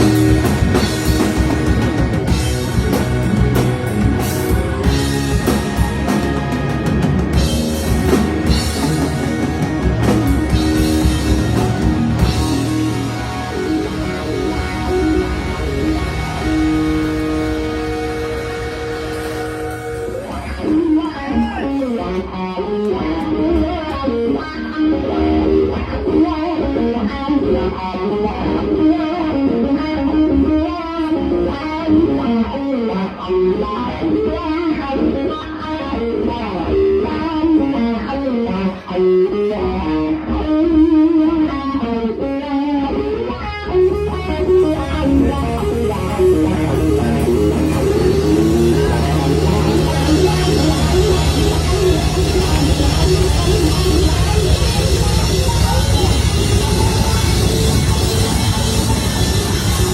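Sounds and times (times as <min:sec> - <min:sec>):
bass guitar: 0:00.0 - 0:59.9
electric guitar lead: 0:00.0 - 0:59.9.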